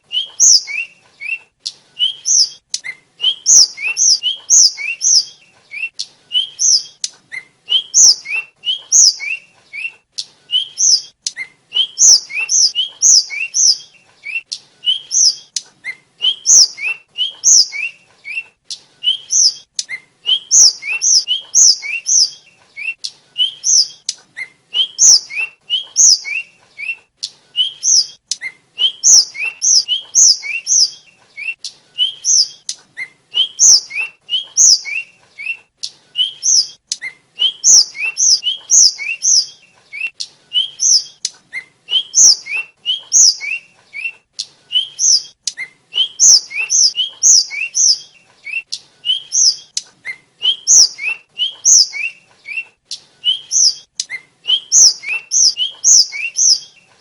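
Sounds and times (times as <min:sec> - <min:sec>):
flycatcher singing chirps: 0:00.0 - 0:24.2, 0:24.8 - 0:32.7, 0:33.4 - 0:35.6, 0:36.2 - 0:41.3, 0:41.9 - 0:49.8, 0:50.4 - 0:52.7, 0:53.3 - 0:56.8.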